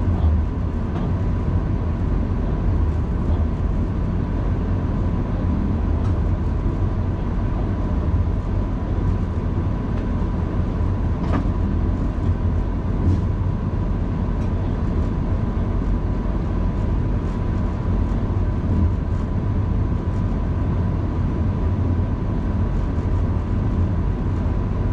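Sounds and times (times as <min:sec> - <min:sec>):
diesel locomotive rumble: 0:00.0 - 0:24.9.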